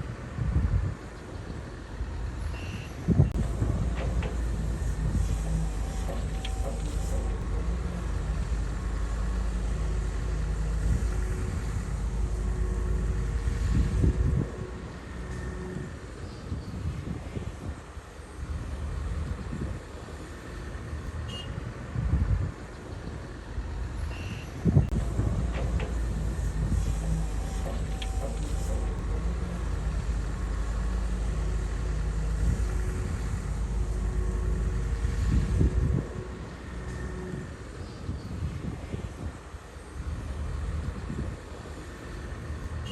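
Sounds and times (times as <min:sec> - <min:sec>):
bulldozer diesel engine rumbling: 0:00.7 - 0:42.9.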